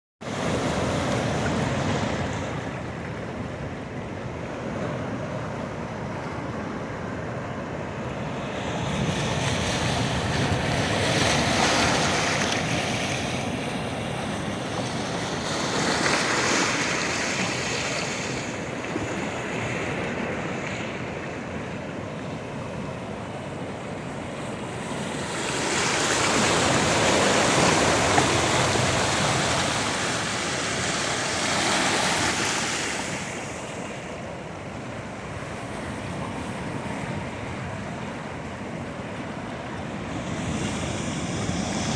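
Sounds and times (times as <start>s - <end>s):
waves washing on shore: 0.2s - 41.9s.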